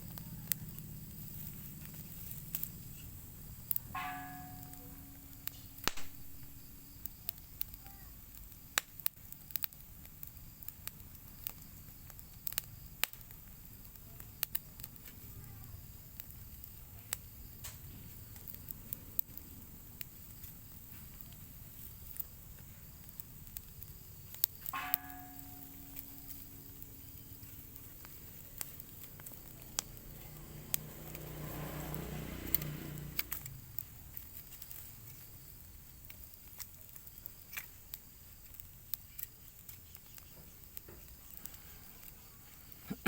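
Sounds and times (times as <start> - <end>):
open fire crackling and popping: 0.0 - 43.0.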